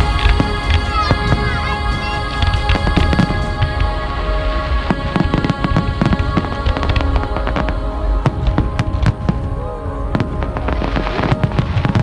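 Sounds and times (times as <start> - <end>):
background music sustained tones: 0.0 - 12.0.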